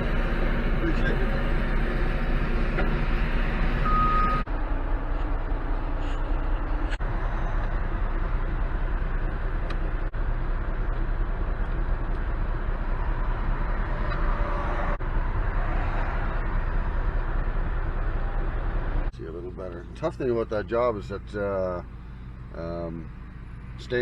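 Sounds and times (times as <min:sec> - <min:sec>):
dump truck engine: 0:00.0 - 0:24.0.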